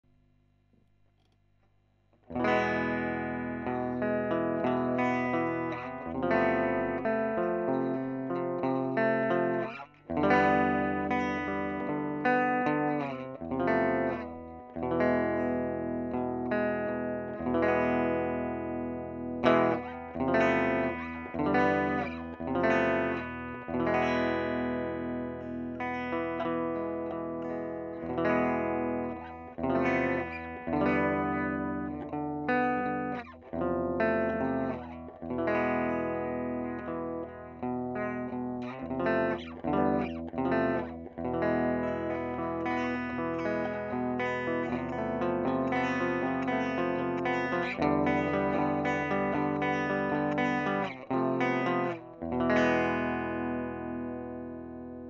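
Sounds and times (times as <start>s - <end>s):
electric guitar chords strummed: 2.2s - 55.0s.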